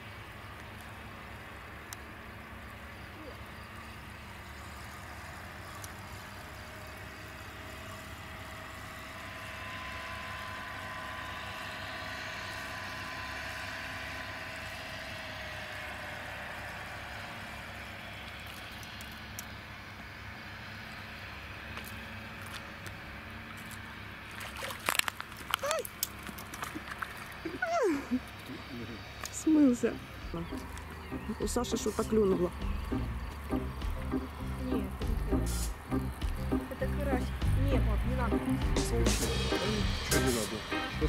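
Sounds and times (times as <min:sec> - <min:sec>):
distant engine drone: 0:00.0 - 0:41.0
steady low hum: 0:00.0 - 0:41.0.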